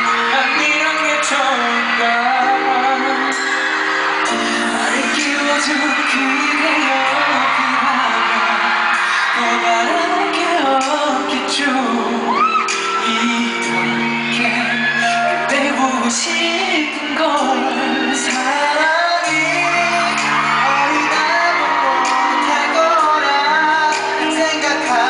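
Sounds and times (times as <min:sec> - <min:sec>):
fans screaming and whooping: 0:00.0 - 0:25.0
man singing into a microphone: 0:00.0 - 0:25.0.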